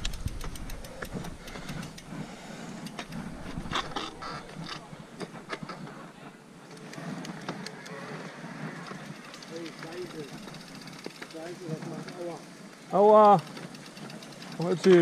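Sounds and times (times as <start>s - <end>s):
bike rattling over bumps: 0.0s - 15.0s
bike tyres rolling on dirt trail: 0.0s - 15.0s.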